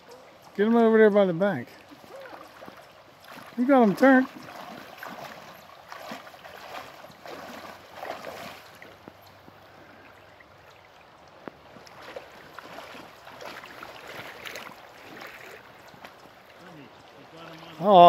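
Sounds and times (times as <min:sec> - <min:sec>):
creek water running: 0:00.0 - 0:18.0
water splashing: 0:00.0 - 0:18.0.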